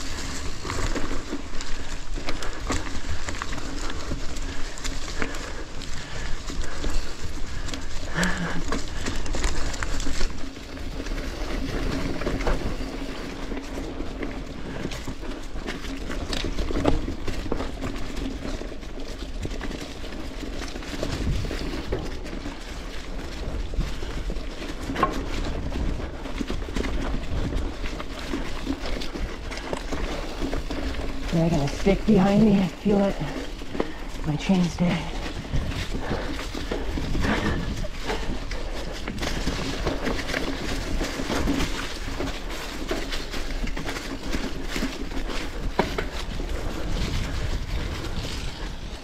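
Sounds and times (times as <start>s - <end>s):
bike knocks and rattles: 0.0s - 34.0s, 35.2s - 49.0s
bike tyres rolling through leaves: 0.0s - 49.0s.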